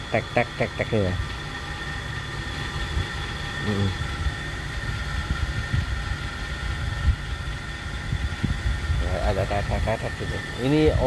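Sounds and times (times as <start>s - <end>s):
car engine idling: 0.0s - 11.0s
engine ticking: 0.0s - 11.0s.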